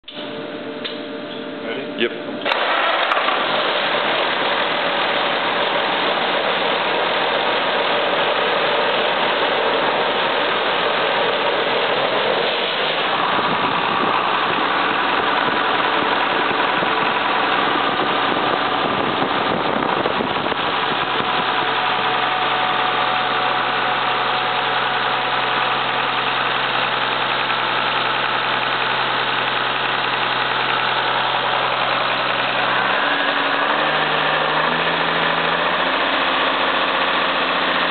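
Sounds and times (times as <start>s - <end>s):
diesel engine running unmuffled: 0.0s - 37.9s.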